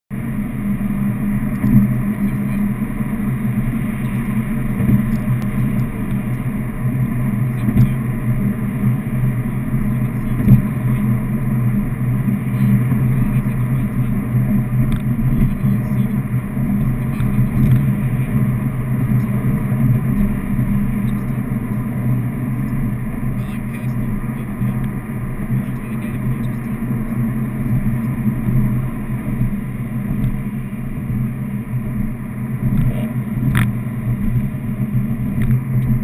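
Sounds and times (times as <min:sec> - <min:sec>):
car engine and road noise: 0:00.1 - 0:36.0.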